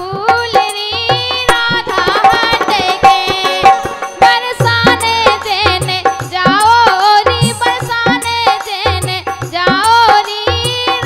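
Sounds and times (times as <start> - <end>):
hand drum beating rhythm: 0.0 - 11.0
harmonium: 0.0 - 11.0
woman singing folk song: 0.0 - 11.0.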